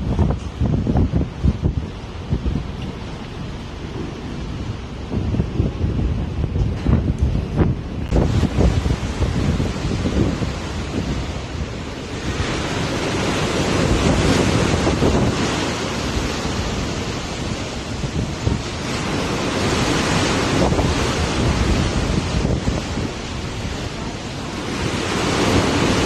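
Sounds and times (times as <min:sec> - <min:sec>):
sea water rushing and splashing: 0:00.0 - 0:26.0
wind buffeting microphone: 0:00.0 - 0:26.0.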